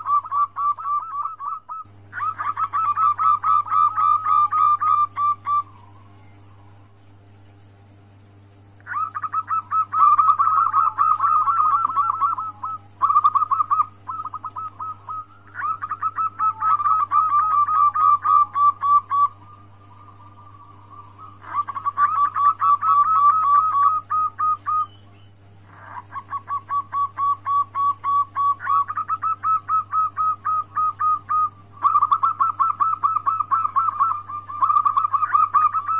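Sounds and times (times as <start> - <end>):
dove calling in rapid notes: 0.0 - 35.9.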